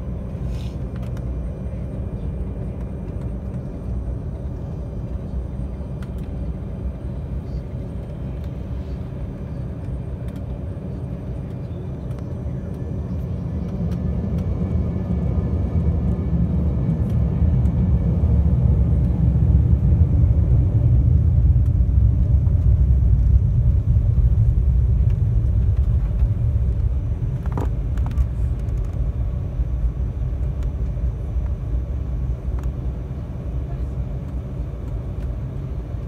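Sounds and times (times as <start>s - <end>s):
jet cabin rumble while taxiing: 0.0s - 36.0s.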